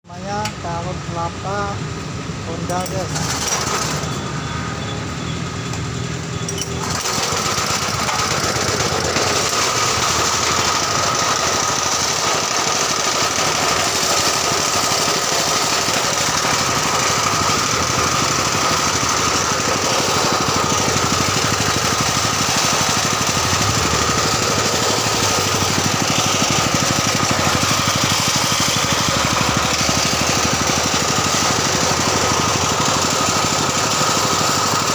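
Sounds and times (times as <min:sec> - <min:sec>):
high machine whine: 0:00.1 - 0:34.9
grating machine rattling: 0:02.6 - 0:04.2, 0:06.5 - 0:34.9.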